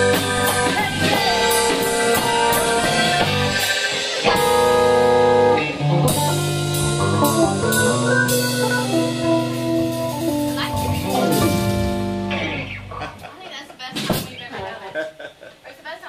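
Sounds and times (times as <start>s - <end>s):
electric guitar: 0.0s - 13.3s
drum kit: 0.0s - 14.5s.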